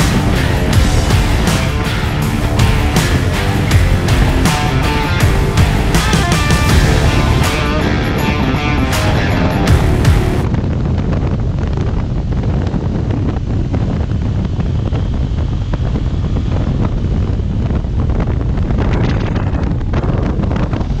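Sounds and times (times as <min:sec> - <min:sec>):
road and engine rumble: 0:00.0 - 0:21.0
wind buffeting microphone: 0:00.0 - 0:21.0.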